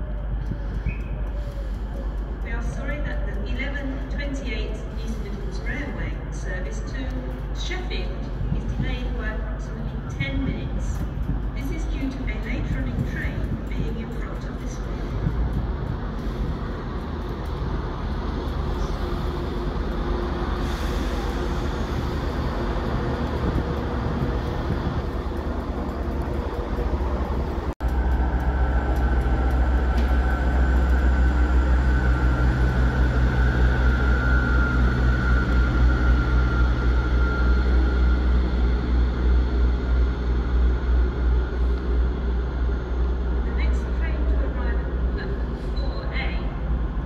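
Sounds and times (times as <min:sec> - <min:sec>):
diesel train engine running: 0:00.0 - 0:47.0
diesel train passing: 0:00.0 - 0:47.0.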